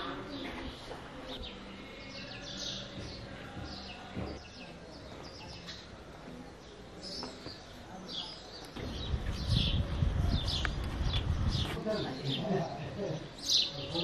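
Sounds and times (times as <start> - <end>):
faint street background: 0.0 - 14.0
small birds chirping: 0.0 - 14.0.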